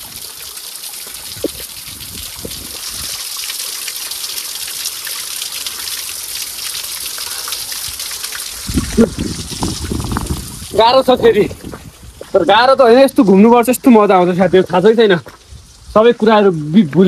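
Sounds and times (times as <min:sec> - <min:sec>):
waterfall splashing onto rocks: 0:00.0 - 0:17.0.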